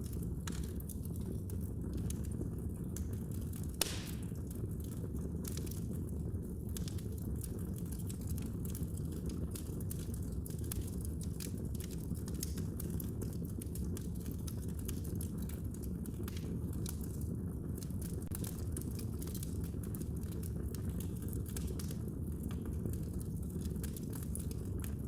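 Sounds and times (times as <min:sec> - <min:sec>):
fire crackling and snapping: 0:00.0 - 0:25.0.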